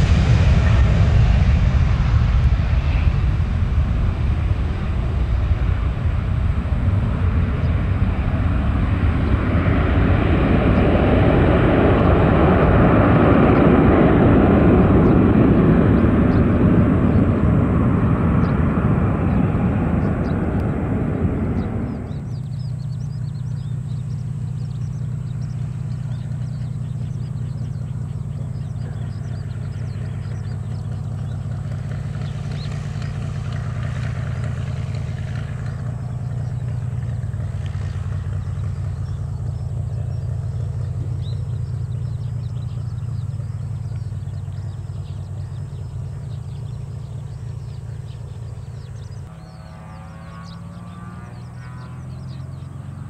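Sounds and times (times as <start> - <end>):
light aircraft engine drone: 0.0 - 53.0.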